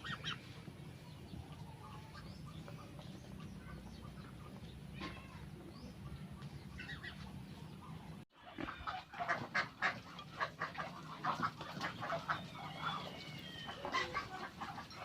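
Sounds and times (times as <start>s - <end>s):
poultry calling: 0.0s - 15.0s.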